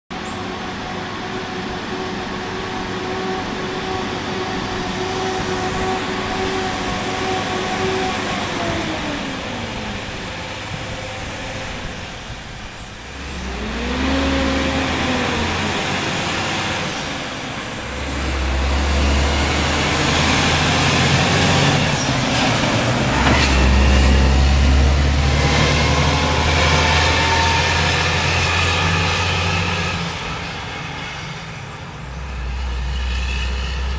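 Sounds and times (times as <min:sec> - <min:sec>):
diesel truck engine passing: 0:00.2 - 0:33.9.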